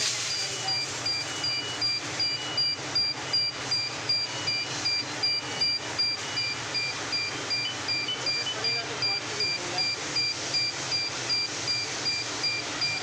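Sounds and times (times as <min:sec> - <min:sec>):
short high beeps: 0:00.2 - 0:13.0.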